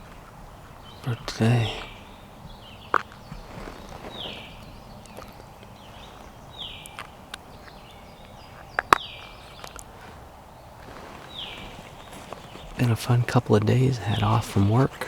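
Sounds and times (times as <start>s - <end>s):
songbird calling: 0.0s - 15.0s.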